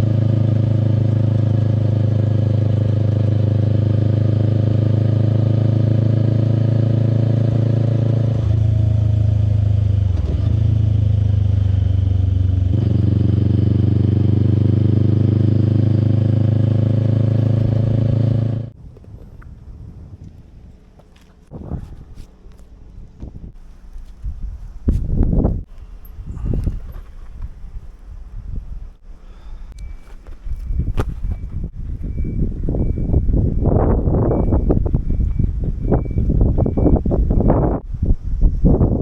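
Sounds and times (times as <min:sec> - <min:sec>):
motorcycle engine with aftermarket exhaust: 0:00.0 - 0:20.2, 0:20.8 - 0:39.0.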